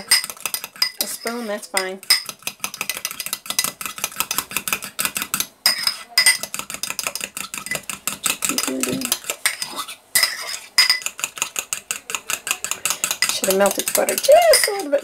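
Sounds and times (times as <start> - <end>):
fork clicking in ceramic ramekin: 1.8 - 15.0.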